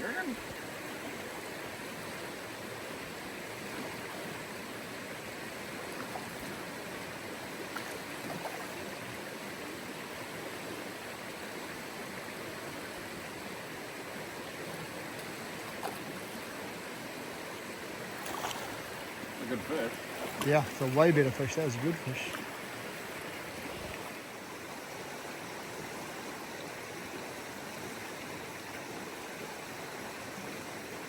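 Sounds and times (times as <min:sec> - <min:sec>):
river water flowing over stones: 0:00.0 - 0:31.0.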